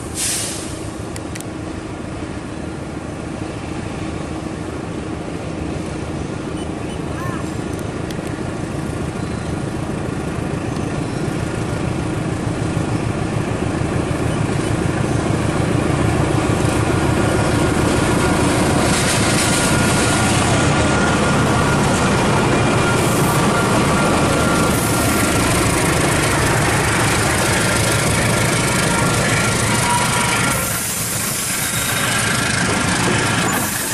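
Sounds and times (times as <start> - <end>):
diesel locomotive engine: 0.0 - 33.9.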